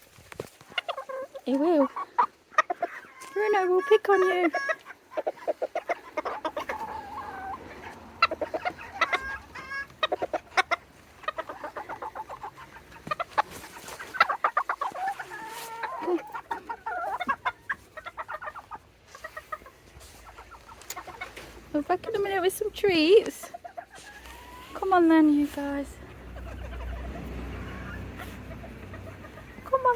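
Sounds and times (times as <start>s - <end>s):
chickens clucking and calling: 0.0s - 29.9s.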